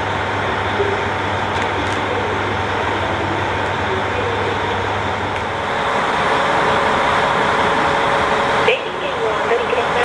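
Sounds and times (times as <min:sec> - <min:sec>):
diesel railcar engine idling: 0:00.0 - 0:10.0.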